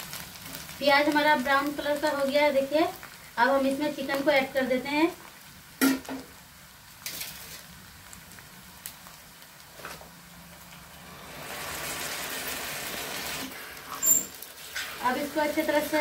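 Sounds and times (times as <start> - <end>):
onion sizzling in fat: 0.0 - 16.0.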